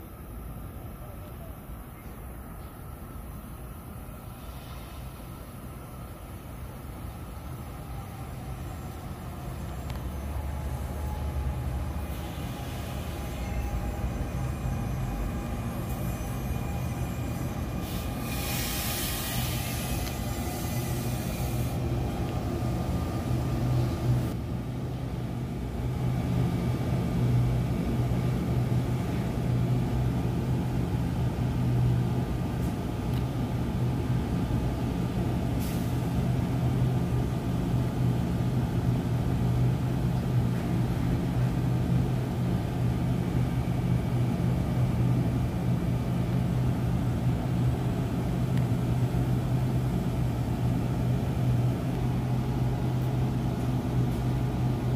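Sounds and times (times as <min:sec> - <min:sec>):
train equipment humming: 0:00.0 - 0:54.9.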